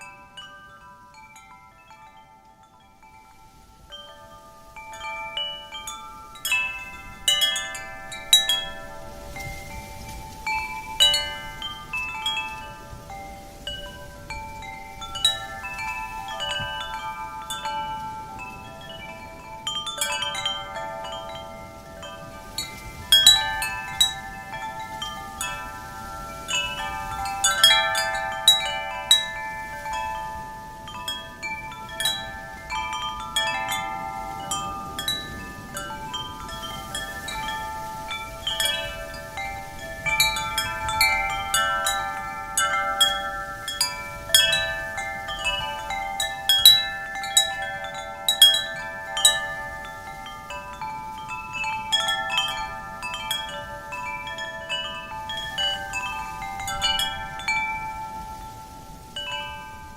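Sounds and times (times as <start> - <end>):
faint wind hiss: 0.0 - 59.9
wind chimes ringing: 0.0 - 59.9.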